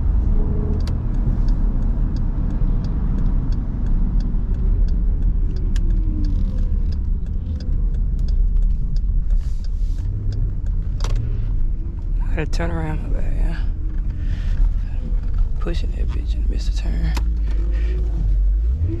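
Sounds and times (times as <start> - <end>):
light regular ticking: 0.0 - 18.9
car engine and tyre noise: 0.0 - 19.0.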